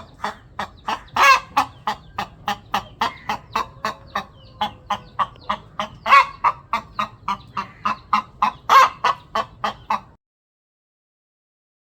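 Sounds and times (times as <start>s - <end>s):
hen clucking: 0.0s - 10.2s
hen drawn-out calls: 0.0s - 10.2s.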